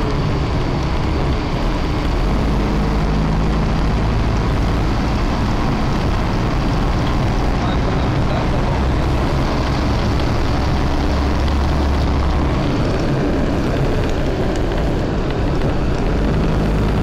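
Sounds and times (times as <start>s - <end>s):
diesel engine drone: 0.0s - 17.0s
wheels rumbling on rails: 0.0s - 17.0s.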